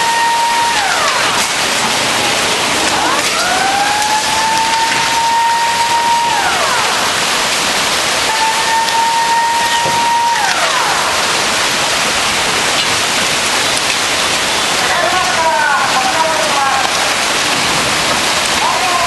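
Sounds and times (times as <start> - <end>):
heavy rain rushing: 0.0 - 19.0.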